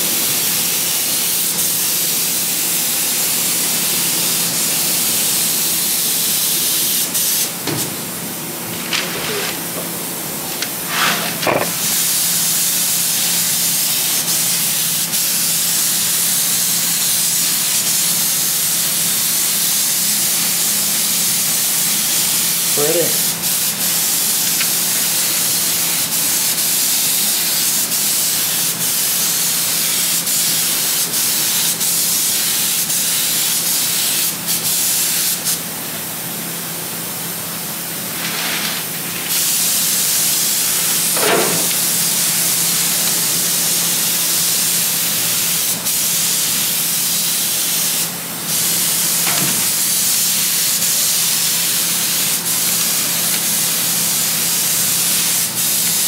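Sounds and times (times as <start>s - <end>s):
spray paint hissing: 0.4s - 7.6s, 10.5s - 35.6s, 37.7s - 56.0s.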